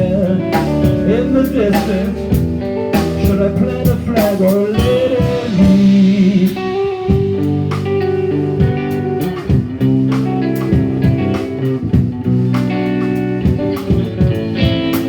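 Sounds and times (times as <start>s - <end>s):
guitar plucked chords: 0.0s - 15.0s.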